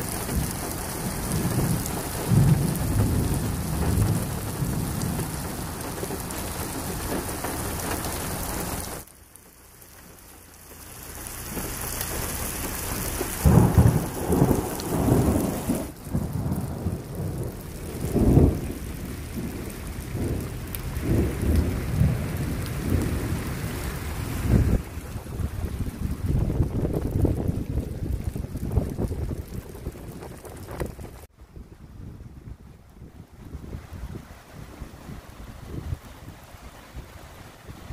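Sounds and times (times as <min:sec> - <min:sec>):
rain water streaming on road: 0:00.0 - 0:37.9.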